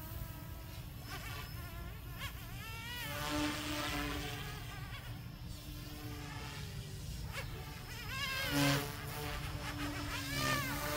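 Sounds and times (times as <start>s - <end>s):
rc helicopter buzzing whine: 0.0s - 10.9s.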